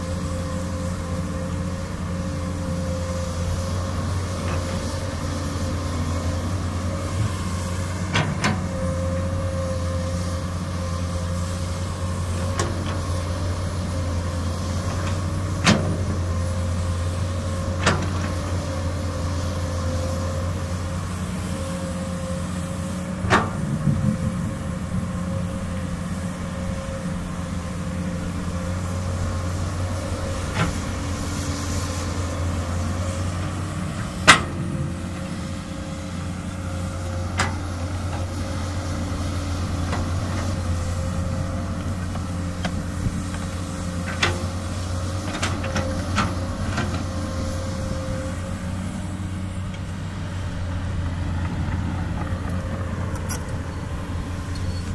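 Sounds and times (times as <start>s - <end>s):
excavator diesel engine running: 0.0s - 54.9s
hydraulic whine: 0.0s - 54.9s.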